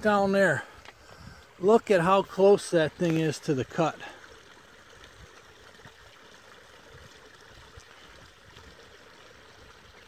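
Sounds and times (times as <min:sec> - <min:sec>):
water running over stones: 0:00.0 - 0:10.0.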